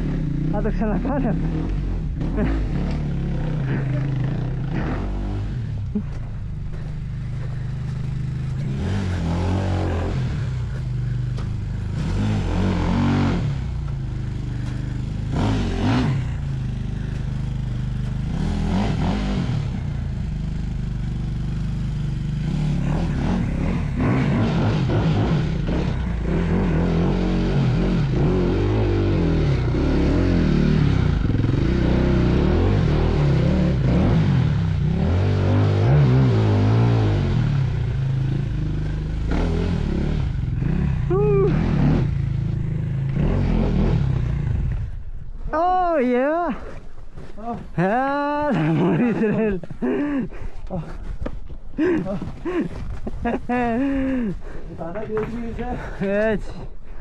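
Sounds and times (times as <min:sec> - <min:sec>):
motorcycle engine revving: 0:00.0 - 0:45.8, 0:46.5 - 0:56.1.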